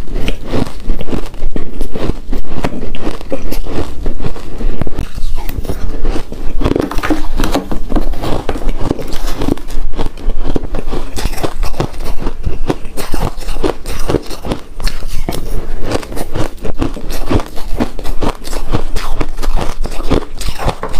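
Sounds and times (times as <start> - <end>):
chewing crunchy ice: 0.0 - 20.9.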